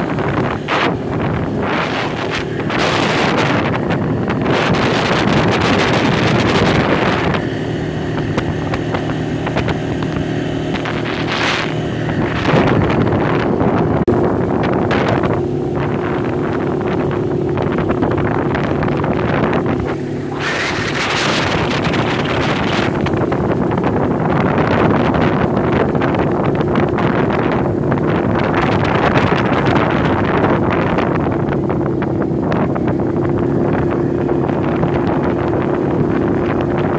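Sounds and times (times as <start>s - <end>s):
atv engine running: 0.0s - 36.9s
wind buffeting microphone: 0.0s - 36.9s.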